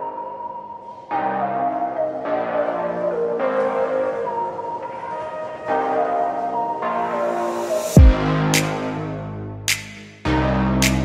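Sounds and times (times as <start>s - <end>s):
background music with held chords: 0.0s - 11.0s.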